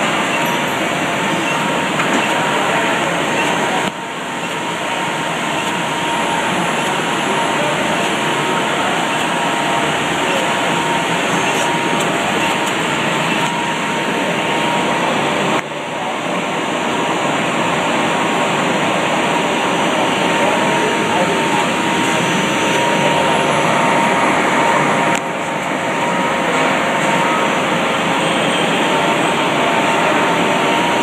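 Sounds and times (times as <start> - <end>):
thin machine whine: 0.0 - 31.0.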